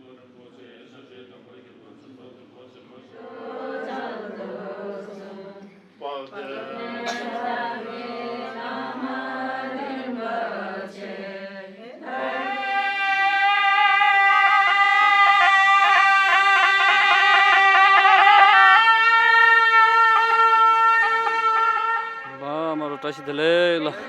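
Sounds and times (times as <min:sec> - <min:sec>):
low-pitched chanting: 0:00.5 - 0:24.0.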